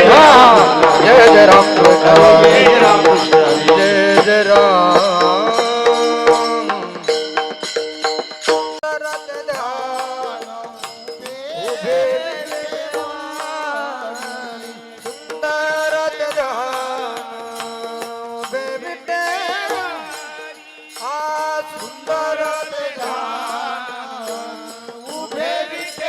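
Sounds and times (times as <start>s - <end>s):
man singing devotional melody: 0.0s - 26.0s.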